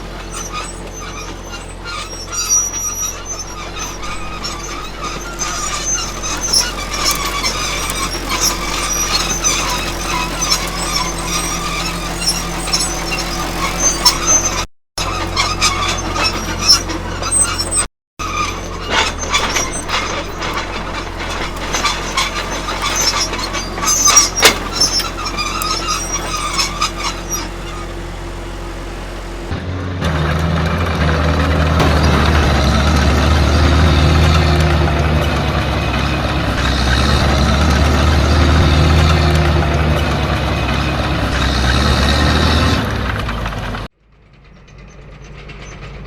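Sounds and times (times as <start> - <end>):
tank tracks squealing and clanking: 0.0 - 29.6, 31.0 - 46.0
tank engine rumble: 0.0 - 46.0.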